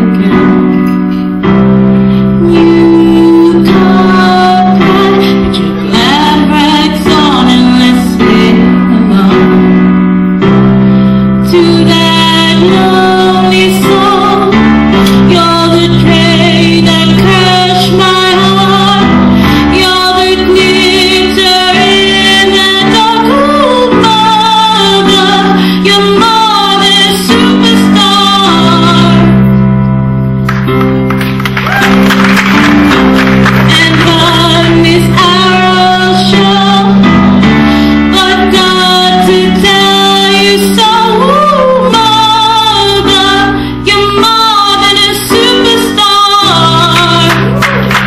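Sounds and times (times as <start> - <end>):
woman singing a ballad: 0.0 - 1.3, 2.1 - 10.0, 11.4 - 29.6, 33.6 - 47.7
keyboard chords: 0.0 - 48.0.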